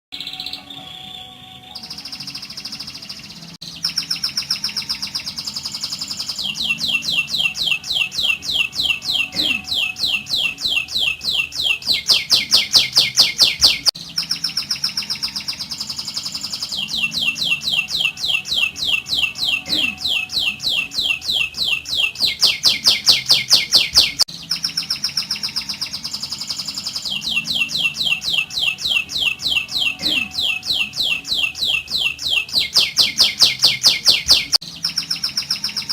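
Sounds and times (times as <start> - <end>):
canary singing rolling trills: 0.1 - 35.9.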